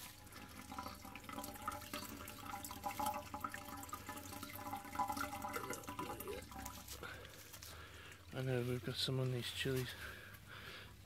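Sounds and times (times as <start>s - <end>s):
small water drips: 0.0s - 9.4s
water trickling in a channel: 0.0s - 9.4s.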